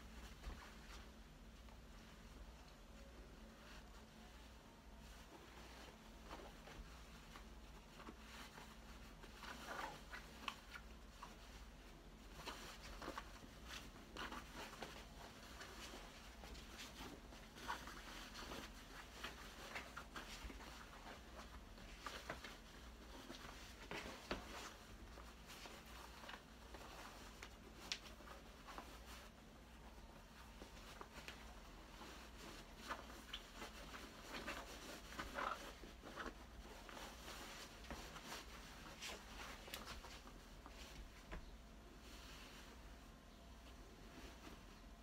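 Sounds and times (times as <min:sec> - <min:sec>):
cloth rustling and swishing: 0:00.0 - 0:45.0.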